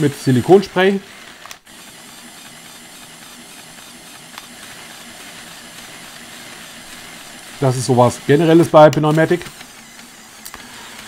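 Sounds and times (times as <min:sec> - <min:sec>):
small electric motors running: 0:00.0 - 0:11.0.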